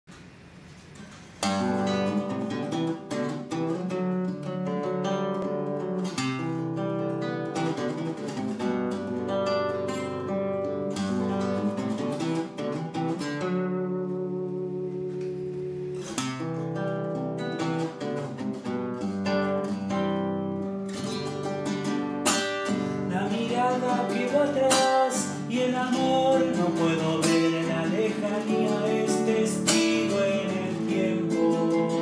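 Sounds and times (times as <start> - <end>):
classical guitar fingerpicked chords: 1.4 - 32.0.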